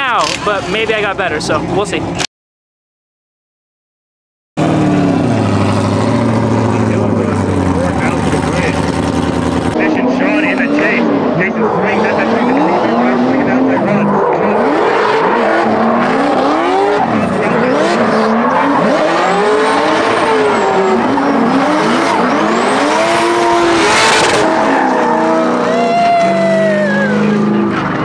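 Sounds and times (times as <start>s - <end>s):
car engines revving: 0.0s - 2.2s, 4.6s - 28.0s.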